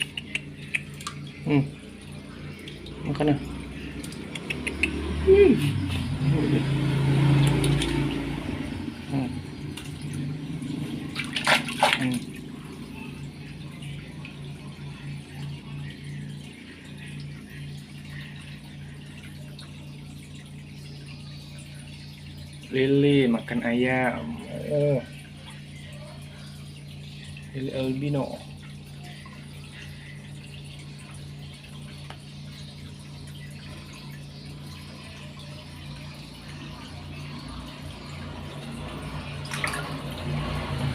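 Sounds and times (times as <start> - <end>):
low electric hum: 0.0 - 40.9
water trickling and splashing: 0.0 - 40.9.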